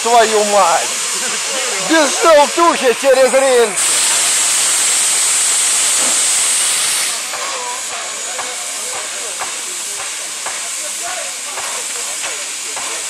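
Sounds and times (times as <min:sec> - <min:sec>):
steam locomotive venting steam: 0:00.0 - 0:13.0.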